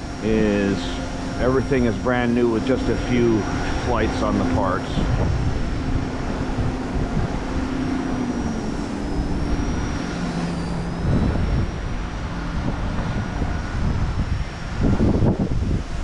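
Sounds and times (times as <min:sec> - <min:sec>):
rc helicopter motors whining: 0:00.0 - 0:16.0
wind rumble on microphone: 0:00.0 - 0:16.0.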